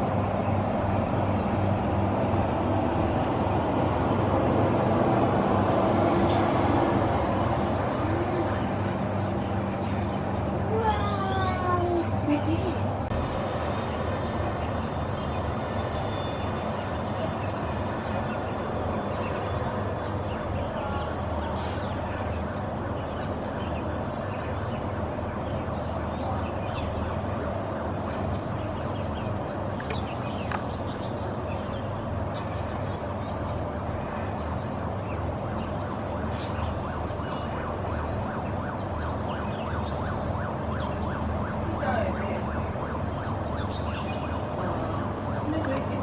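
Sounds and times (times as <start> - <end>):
distant city traffic: 0.0 - 46.0
emergency vehicle siren: 0.0 - 46.0.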